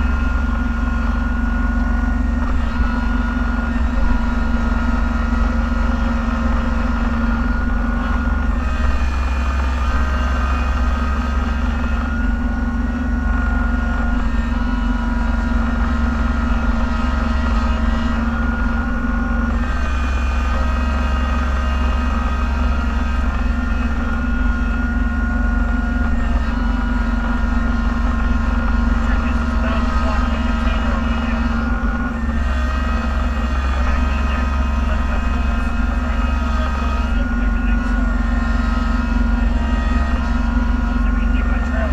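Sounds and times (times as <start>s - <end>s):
engine low drone: 0.0s - 41.9s.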